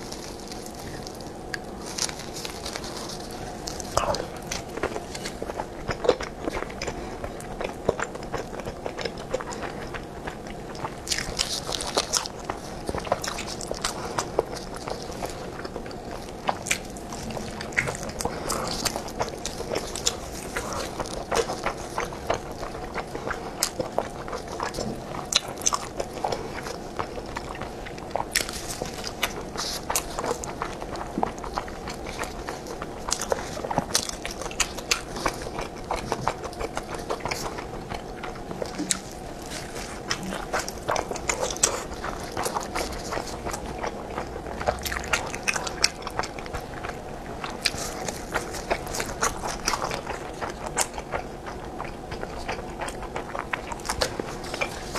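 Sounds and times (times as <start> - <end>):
wet sticky chewing: 0.0 - 54.9.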